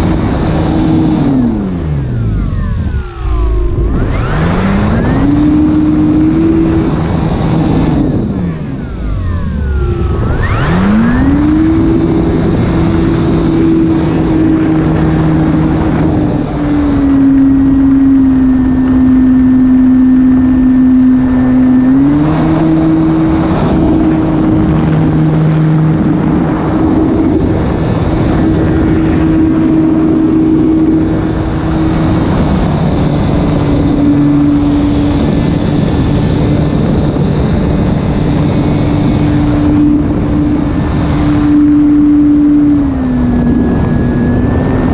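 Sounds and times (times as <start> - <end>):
model plane motor humming: 0.0 - 44.9.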